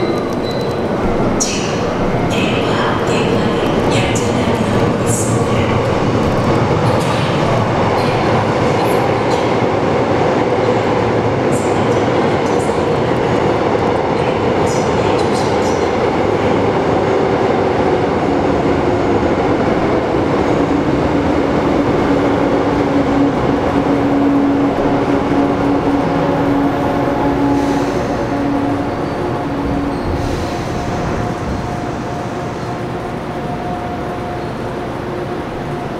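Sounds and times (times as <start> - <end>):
low electric train hum: 0.0 - 35.9
train wheels rumbling on rail: 0.0 - 35.9.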